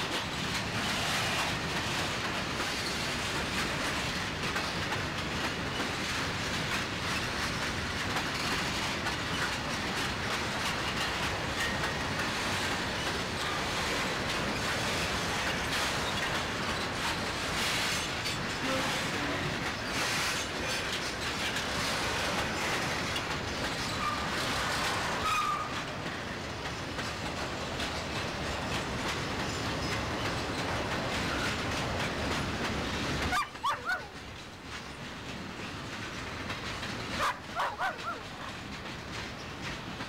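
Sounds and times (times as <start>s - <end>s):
train wheel squeals: 0.0s - 32.4s
railcars rumbling: 0.0s - 40.0s
wheels clicking over rail joints: 0.0s - 40.0s.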